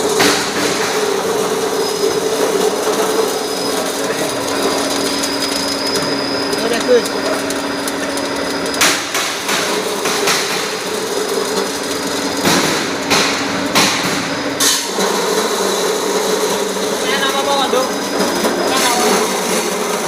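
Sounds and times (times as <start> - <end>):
machine droning: 0.0 - 20.0.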